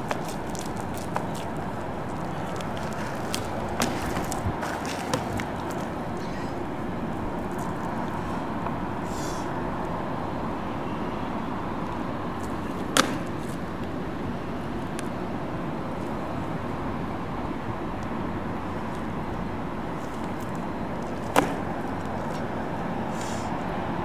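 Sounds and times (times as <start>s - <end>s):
urban traffic noise: 0.0s - 24.0s.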